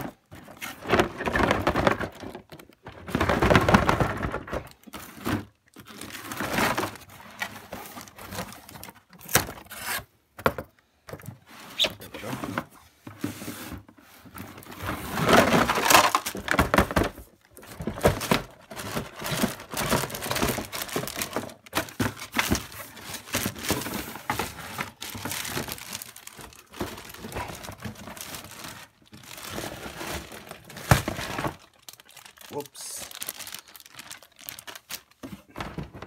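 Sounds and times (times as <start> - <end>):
cardboard and plastic crinkling: 0.0 - 36.0.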